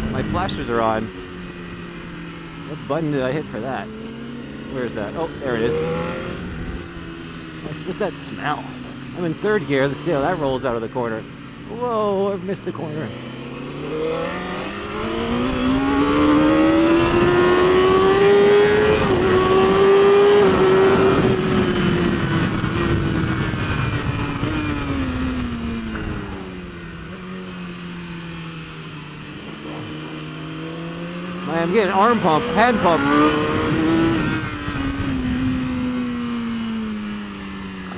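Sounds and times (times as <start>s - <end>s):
race motorcycle engine revving: 0.0s - 37.9s.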